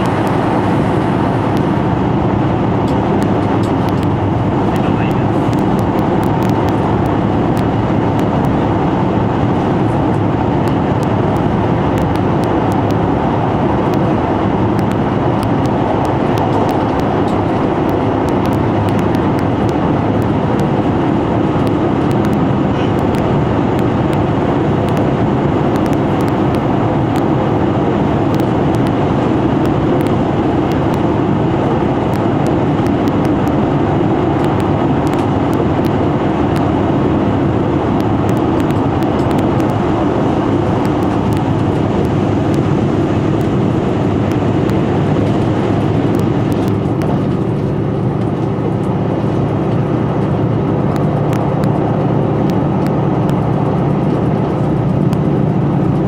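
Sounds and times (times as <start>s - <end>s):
train engine and wheels rumbling: 0.0s - 56.0s.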